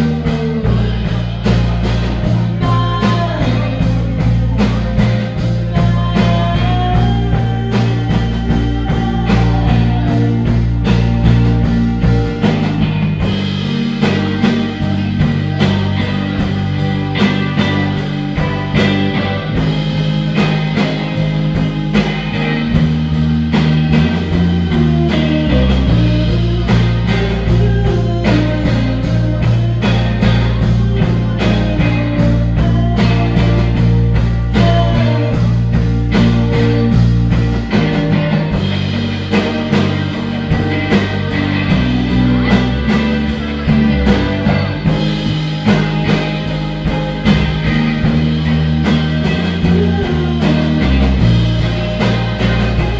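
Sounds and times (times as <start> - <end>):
bass line: 0.0 - 52.9
drum kit steady beat: 0.0 - 52.9
electric guitars: 0.0 - 52.9.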